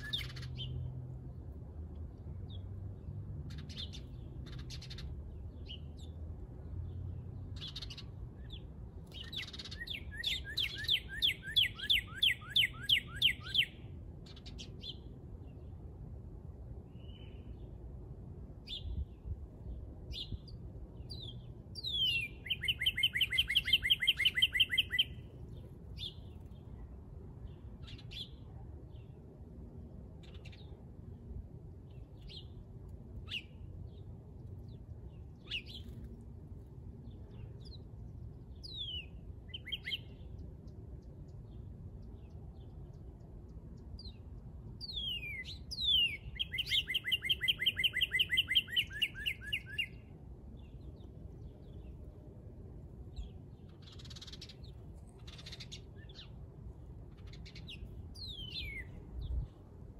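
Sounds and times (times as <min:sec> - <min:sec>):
songbird singing: 0:00.0 - 0:16.1, 0:16.7 - 0:29.5, 0:30.1 - 0:59.9.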